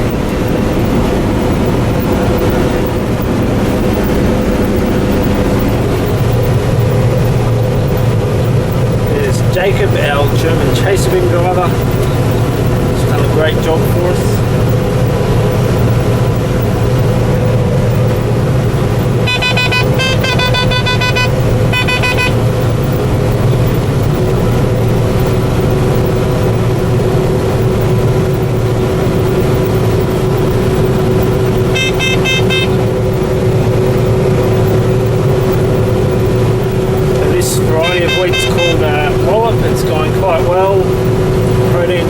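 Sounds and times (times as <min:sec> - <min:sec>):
cab alarm beeping rapidly: 0:00.0 - 0:42.0
harvester engine and machinery drone: 0:00.0 - 0:42.0
machinery whine: 0:00.0 - 0:42.0.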